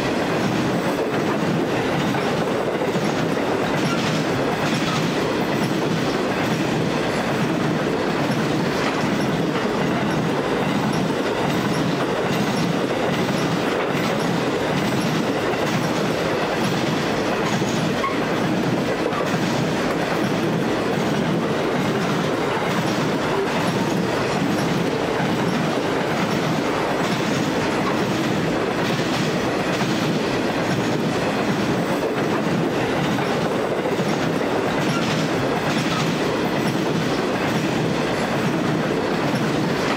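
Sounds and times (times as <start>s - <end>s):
steel wheels rumbling on rail: 0.0s - 39.9s
clacks over rail joints: 0.1s - 39.9s.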